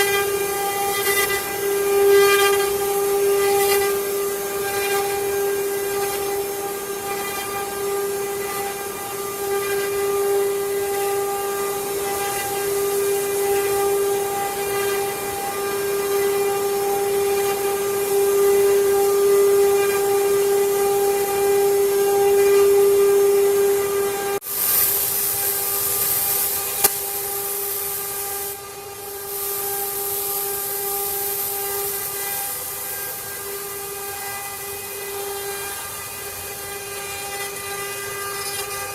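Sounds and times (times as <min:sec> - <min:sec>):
cutting hiss: 0:00.0 - 0:38.9
router spindle whine: 0:00.0 - 0:38.9.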